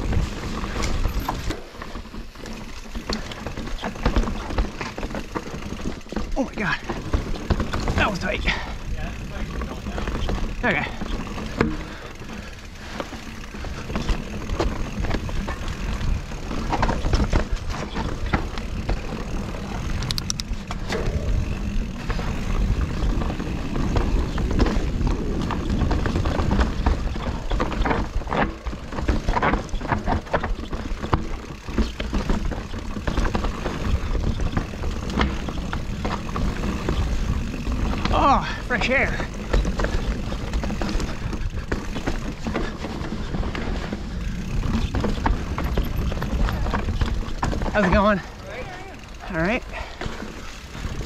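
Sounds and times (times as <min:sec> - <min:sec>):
bike rattling over bumps: 0:00.0 - 0:51.0
bike rolling on dirt trail: 0:00.0 - 0:51.0.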